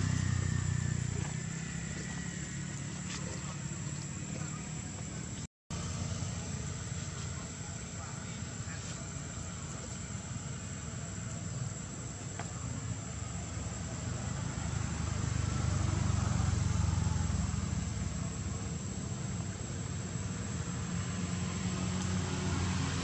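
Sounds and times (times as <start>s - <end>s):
vehicle passing rumble: 0.0s - 23.0s.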